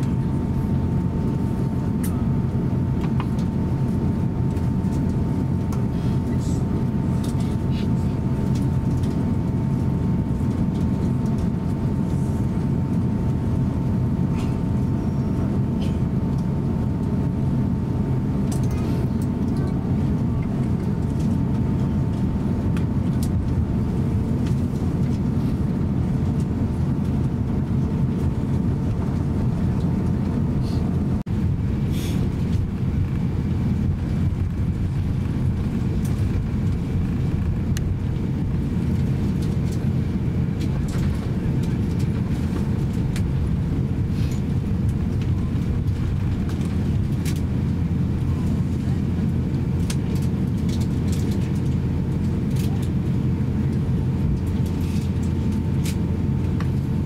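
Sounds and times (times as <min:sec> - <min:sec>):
aircraft cabin rumble: 0:00.0 - 0:57.0
faint engine whine: 0:00.0 - 0:57.0.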